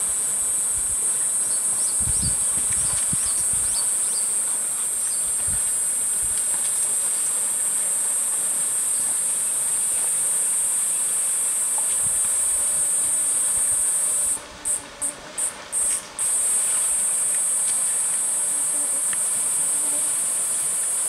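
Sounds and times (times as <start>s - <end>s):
cicada chorus buzzing: 0.0s - 21.0s.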